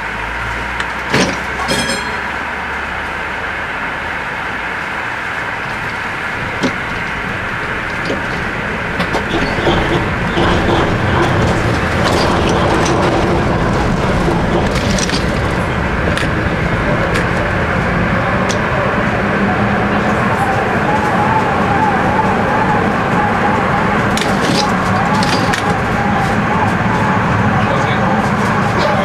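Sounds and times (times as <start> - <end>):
tram rumbling on rails: 0.0 - 29.0.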